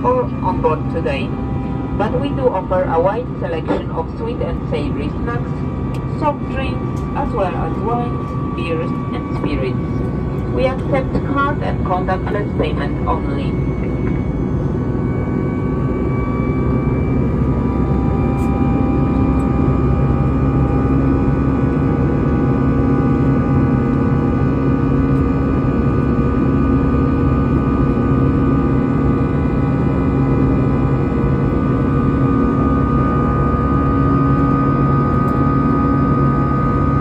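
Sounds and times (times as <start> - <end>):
aircraft engine and airflow drone: 0.0 - 37.0
humming and whining tones: 0.0 - 37.0.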